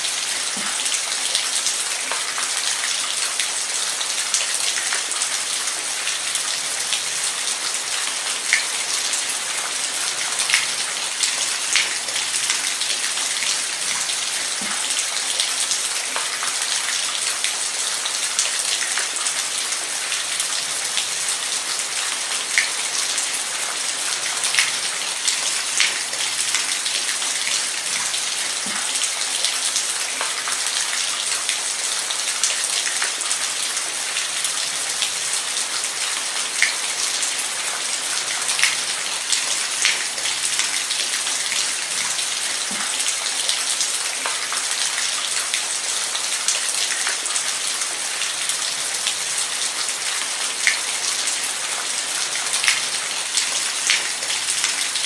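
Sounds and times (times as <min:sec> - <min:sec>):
individual raindrops: 0:00.0 - 0:55.0.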